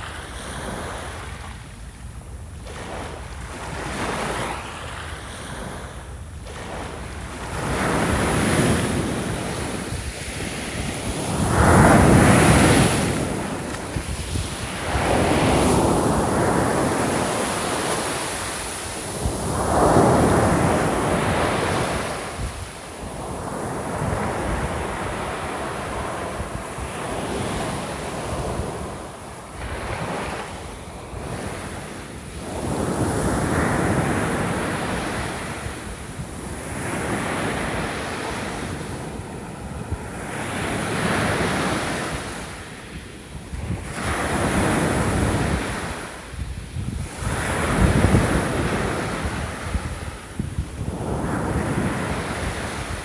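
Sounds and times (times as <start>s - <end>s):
small waves breaking on shore: 2.6s - 53.0s.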